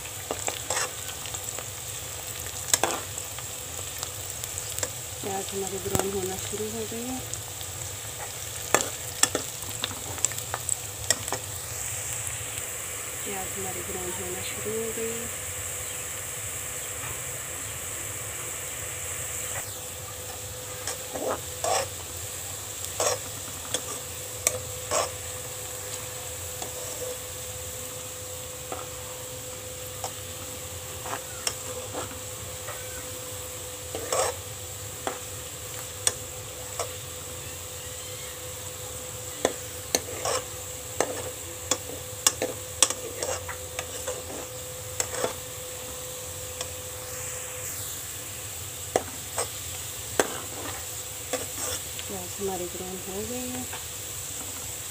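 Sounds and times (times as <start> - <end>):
onions sizzling in oil: 0.0 - 54.9.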